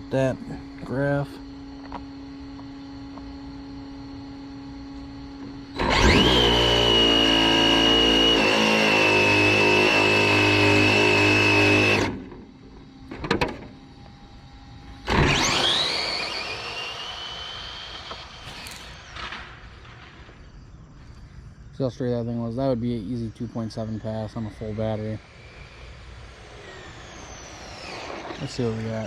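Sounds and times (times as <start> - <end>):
electric motor whining: 0.0 - 21.4, 23.2 - 29.0.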